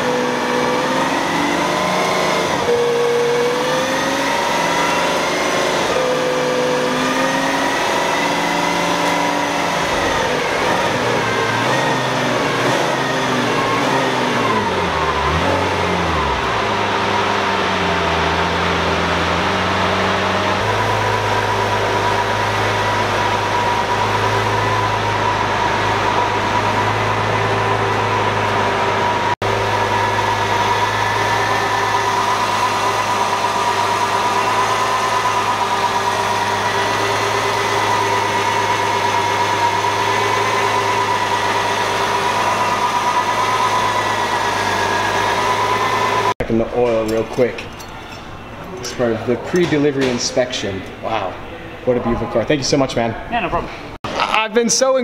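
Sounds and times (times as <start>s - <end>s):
car engine idling with whine: 0.0s - 52.8s.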